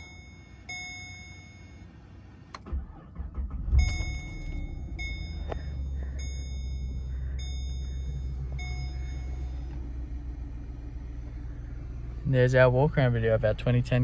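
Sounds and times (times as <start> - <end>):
car engine cranking and idling: 0.0 - 14.0
car warning chime dinging: 0.0 - 14.0.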